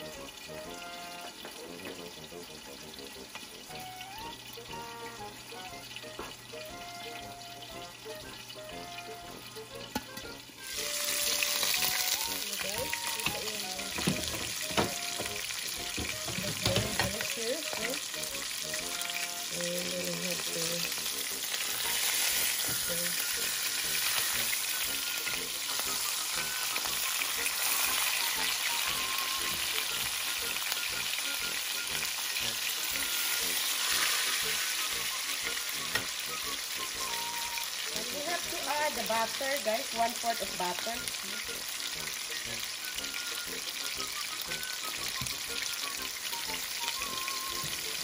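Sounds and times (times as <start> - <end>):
fish sizzling in a pan: 0.0 - 48.0.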